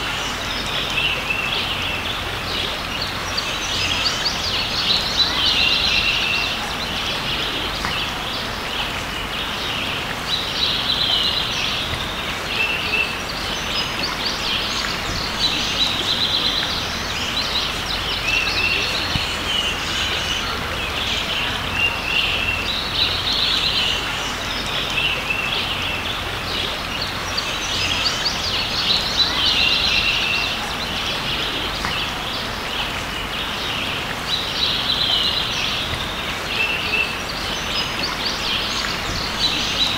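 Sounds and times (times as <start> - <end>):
creek running: 0.0 - 39.9
songbird singing: 0.0 - 39.9.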